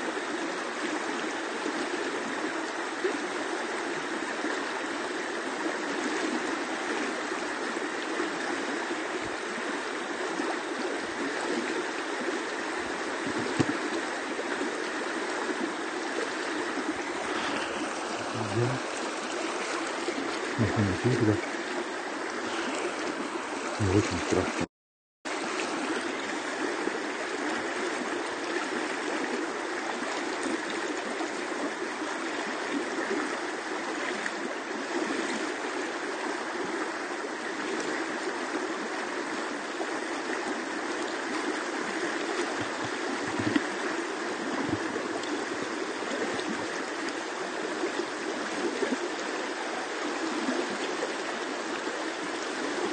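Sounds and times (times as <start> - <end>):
river rushing: 0.1 - 24.7, 25.3 - 52.9.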